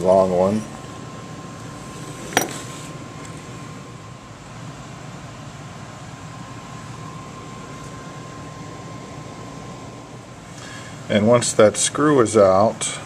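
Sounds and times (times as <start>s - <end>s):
background hiss and hum: 0.0s - 13.0s.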